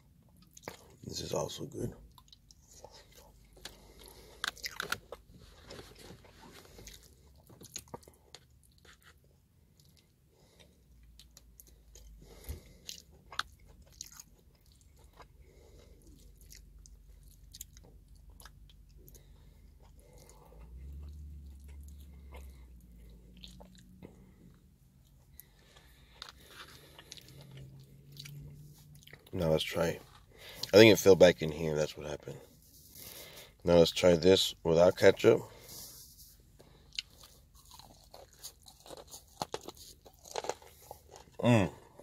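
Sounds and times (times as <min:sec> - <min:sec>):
person chewing food: 0:00.0 - 0:01.0, 0:02.0 - 0:29.4, 0:30.1 - 0:30.8, 0:35.5 - 0:42.0.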